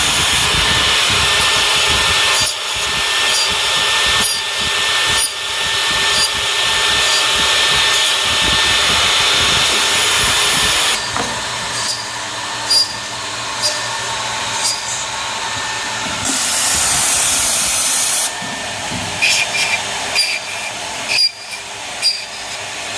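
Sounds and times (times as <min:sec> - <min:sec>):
router cutting wood: 0:00.0 - 0:22.9.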